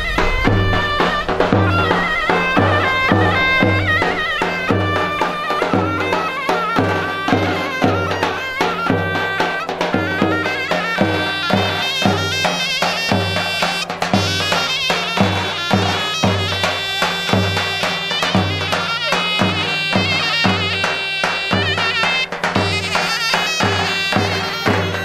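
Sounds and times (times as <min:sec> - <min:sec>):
reedy wind instrument melody: 0:00.0 - 0:25.0
steady drum beat: 0:00.0 - 0:25.0.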